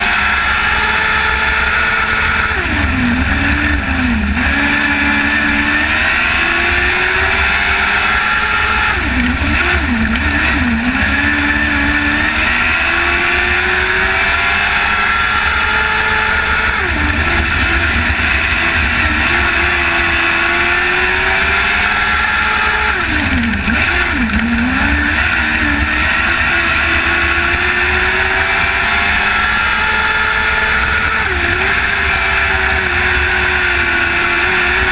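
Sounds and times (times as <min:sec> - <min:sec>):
race car engines: 0:00.0 - 0:34.9.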